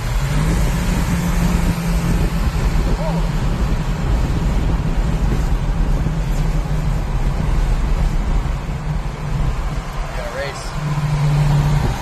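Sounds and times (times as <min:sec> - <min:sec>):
car road noise inside cabin: 0:00.0 - 0:12.0.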